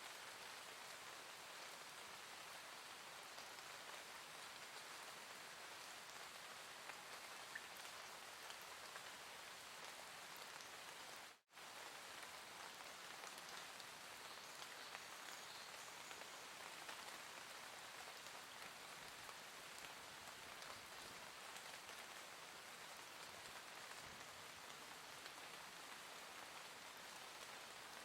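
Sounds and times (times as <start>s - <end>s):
gentle rain: 0.0s - 28.0s.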